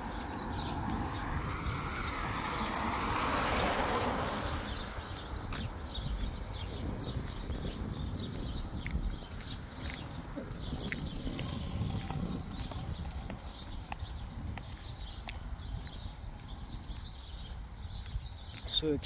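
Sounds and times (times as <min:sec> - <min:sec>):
footsteps on wet path: 0:00.0 - 0:19.0.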